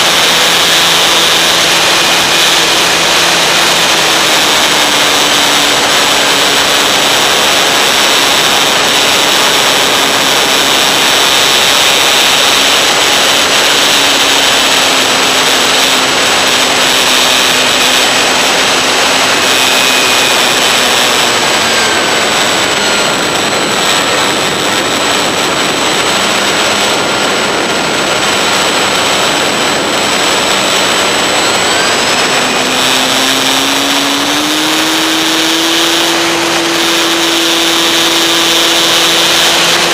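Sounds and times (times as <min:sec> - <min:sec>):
airflow rushing: 0:00.0 - 0:39.9
model plane motor and propeller: 0:00.0 - 0:39.9.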